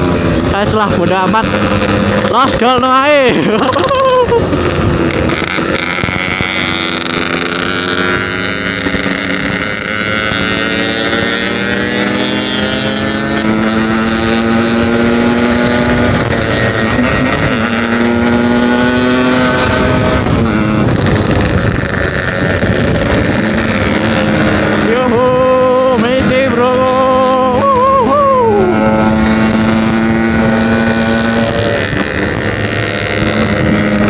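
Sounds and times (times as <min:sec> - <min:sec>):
two-stroke motorcycle accelerating: 0:00.0 - 0:34.0
wind buffeting microphone: 0:00.0 - 0:34.0.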